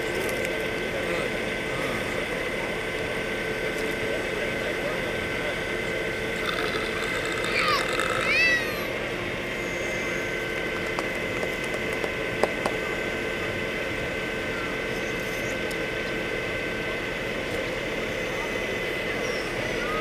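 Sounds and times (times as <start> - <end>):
heavy engine and hydraulics drone: 0.0 - 20.0.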